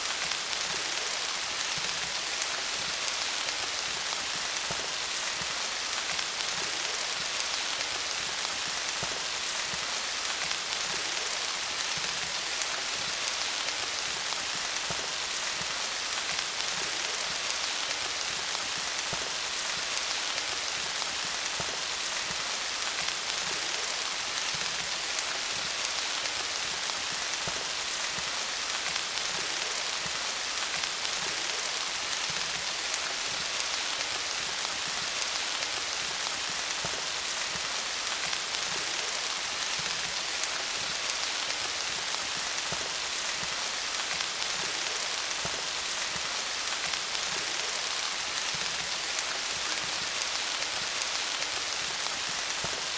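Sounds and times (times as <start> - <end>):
rain falling on leaves: 0.0 - 52.9.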